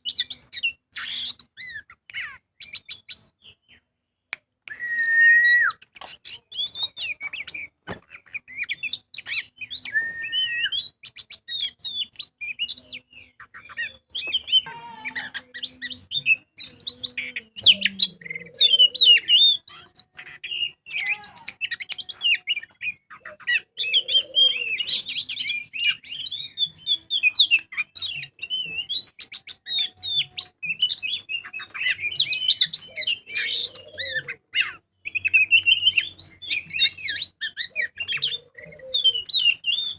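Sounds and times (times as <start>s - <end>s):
songbird chirps whistles and trills: 0.0s - 39.9s.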